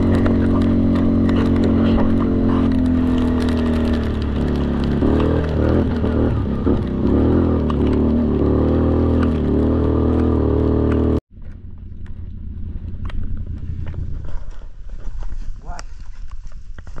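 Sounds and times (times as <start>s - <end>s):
atv engine running under load: 0.0s - 15.0s
rough engine sound: 0.0s - 17.0s.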